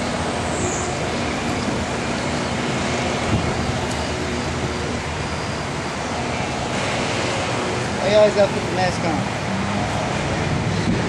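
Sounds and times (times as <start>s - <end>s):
road traffic hum and hiss: 0.0s - 11.0s.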